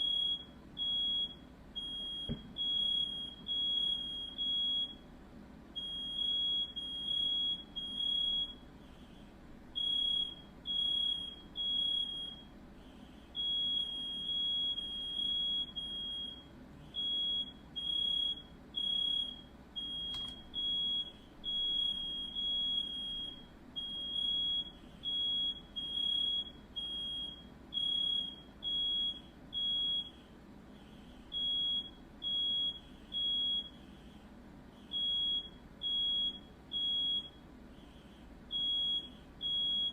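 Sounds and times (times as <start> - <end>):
smoke alarm beeping: 0.0 - 5.1, 5.8 - 8.8, 9.8 - 12.6, 13.3 - 30.2, 30.9 - 33.8, 34.8 - 37.4, 38.5 - 39.9.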